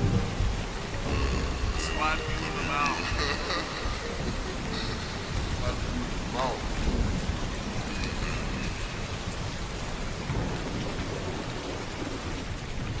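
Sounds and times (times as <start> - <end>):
rain on a hard surface: 0.0 - 13.0
thunder rumbling: 0.0 - 13.0.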